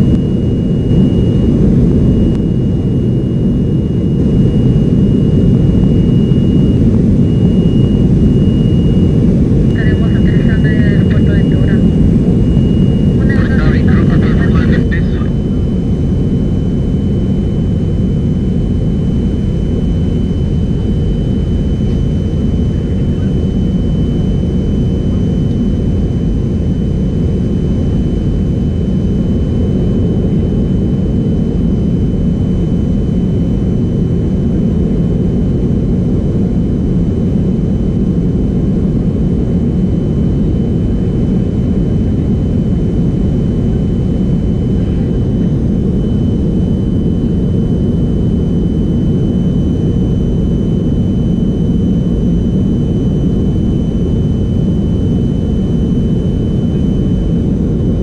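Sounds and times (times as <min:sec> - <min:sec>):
airplane cabin rumble: 0:00.0 - 0:58.0
faint high whine: 0:00.0 - 0:58.0.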